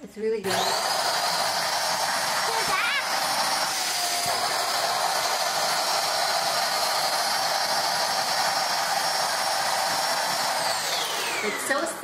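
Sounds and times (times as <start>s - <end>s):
stick vacuum cleaner running: 0.4s - 12.0s.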